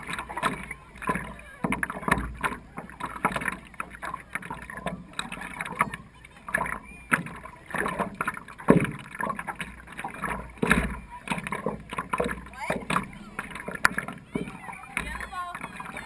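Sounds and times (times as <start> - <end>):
water splashing against paddleboard: 0.0 - 16.0.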